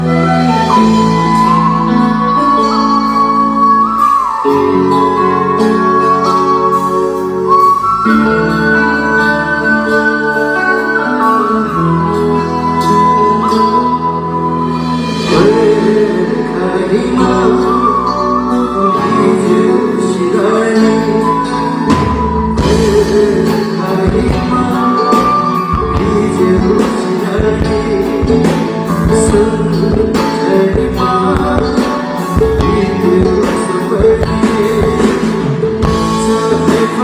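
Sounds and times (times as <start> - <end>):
live rock band playing: 0.0 - 37.0
person singing: 0.0 - 37.0.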